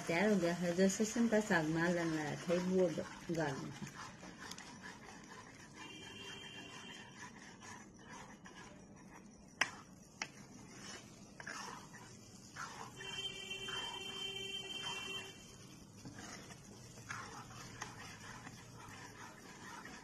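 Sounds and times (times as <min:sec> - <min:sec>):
steel spoon scraping pot: 0:00.0 - 0:20.0.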